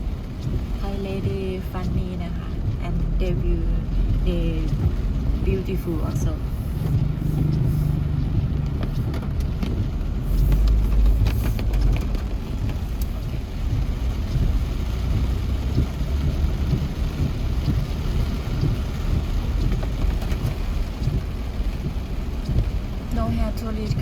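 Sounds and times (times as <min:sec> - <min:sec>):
light rain falling: 0:00.0 - 0:24.0
street noise rumble: 0:00.0 - 0:24.0
wind: 0:00.0 - 0:24.0.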